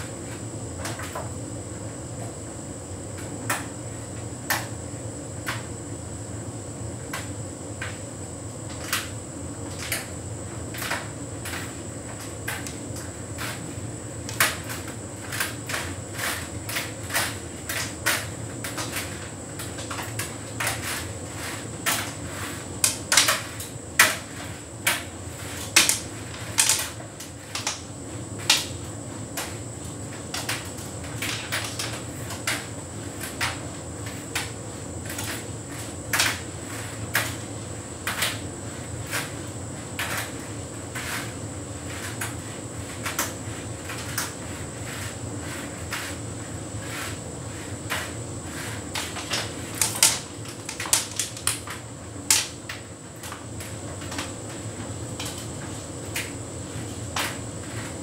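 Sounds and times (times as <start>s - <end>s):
tumble dryer hum: 0.0s - 58.0s.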